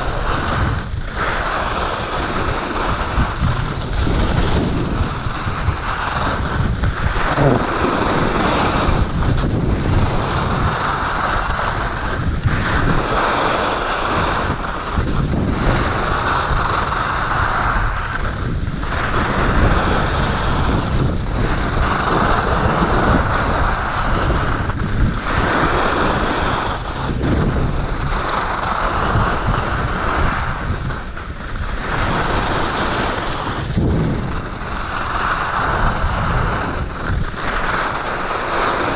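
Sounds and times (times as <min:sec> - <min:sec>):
skis scraping over packed snow: 0:00.0 - 0:38.9
wind buffeting microphone: 0:00.0 - 0:38.9.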